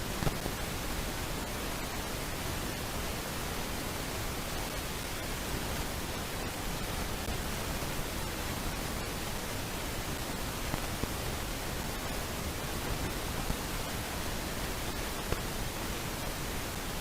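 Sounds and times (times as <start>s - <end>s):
microphone static hiss: 0.0s - 17.0s.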